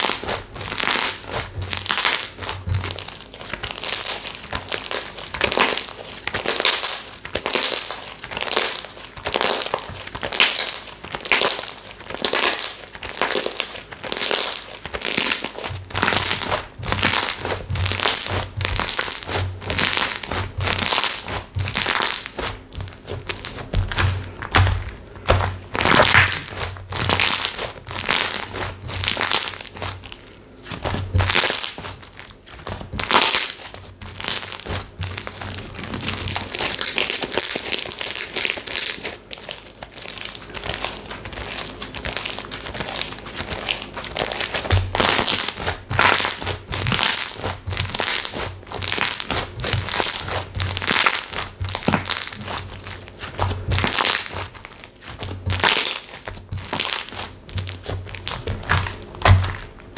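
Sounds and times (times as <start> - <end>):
slime squeezed with crackles: 0.0 - 59.9.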